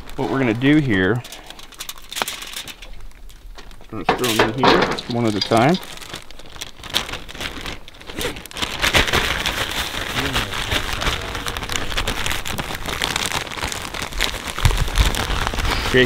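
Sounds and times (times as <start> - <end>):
food pieces rattling in bag: 0.0 - 2.9, 4.1 - 16.0
plastic bag crinkling: 0.0 - 16.0.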